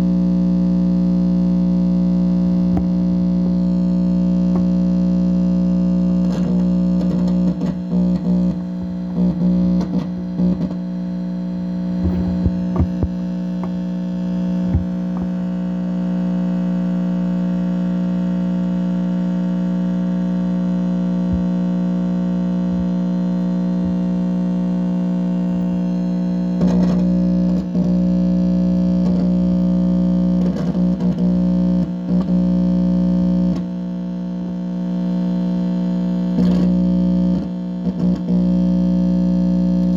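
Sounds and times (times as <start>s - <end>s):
electrical buzz from speaker: 0.0s - 39.9s.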